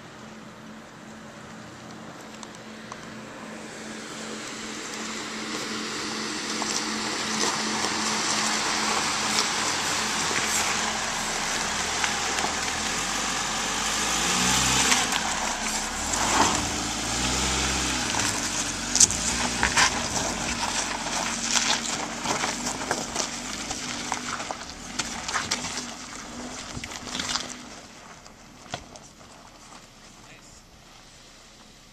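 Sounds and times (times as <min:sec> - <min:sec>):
engine at low revs: 0:00.0 - 0:31.9
tyres crunching on gravel: 0:01.0 - 0:31.9.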